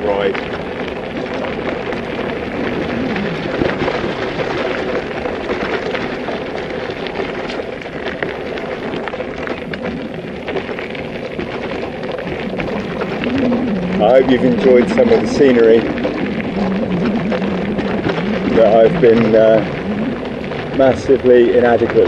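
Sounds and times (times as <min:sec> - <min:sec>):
bicycle tyres rolling on rough ground: 0:00.0 - 0:22.0.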